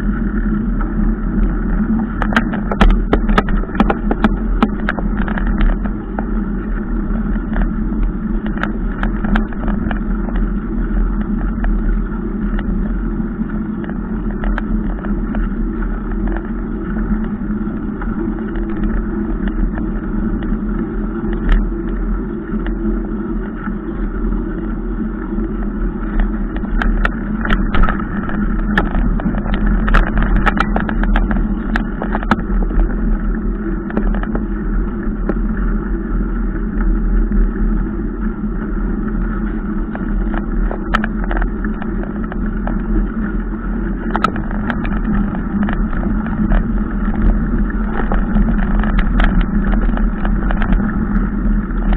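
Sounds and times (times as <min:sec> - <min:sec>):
bike and mount rattling: 0:00.0 - 0:22.7, 0:26.0 - 0:36.0, 0:39.2 - 0:51.9
bike tyres rolling on dirt: 0:00.0 - 0:51.9
wind noise: 0:00.0 - 0:51.9.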